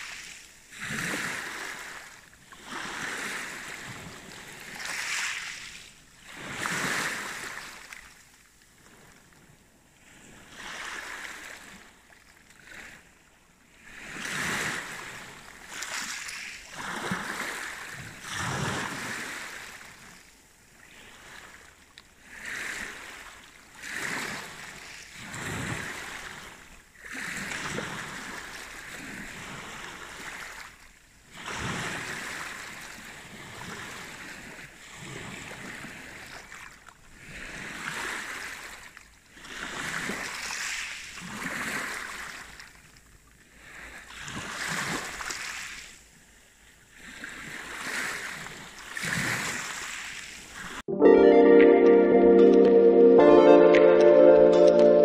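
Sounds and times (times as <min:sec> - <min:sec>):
small waves washing on shore: 0:00.0 - 0:50.8.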